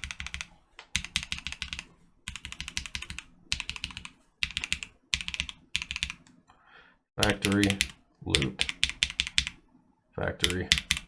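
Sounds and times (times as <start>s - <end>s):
mechanical keyboard typing: 0.0s - 6.3s, 7.2s - 9.6s, 10.4s - 11.0s.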